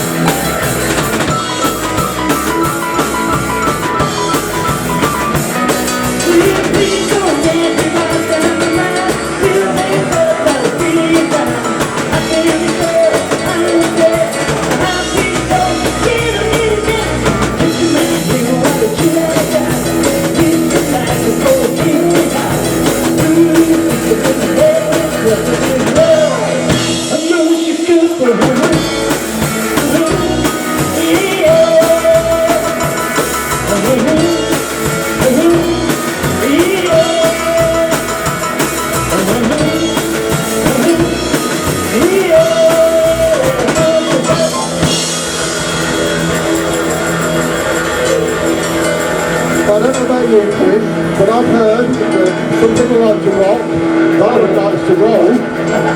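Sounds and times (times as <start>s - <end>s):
bass: 0.0s - 55.9s
drum kit: 0.0s - 55.9s
electric guitar: 0.0s - 55.9s
person singing: 0.0s - 55.9s.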